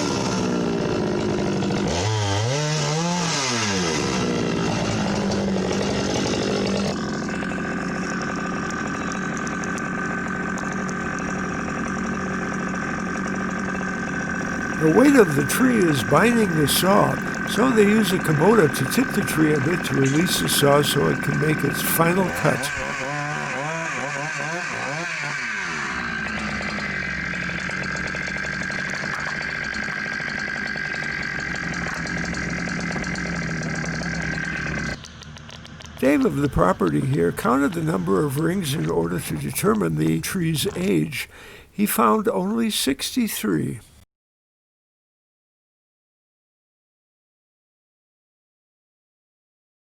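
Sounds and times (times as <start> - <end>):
chainsaw running: 0.0 - 42.9.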